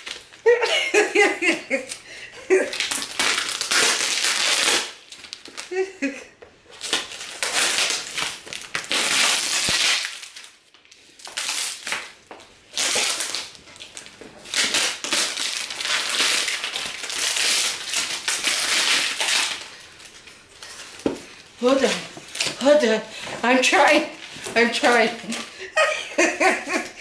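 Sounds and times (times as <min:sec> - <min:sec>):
plastic wrap crinkling: 0:00.0 - 0:26.9.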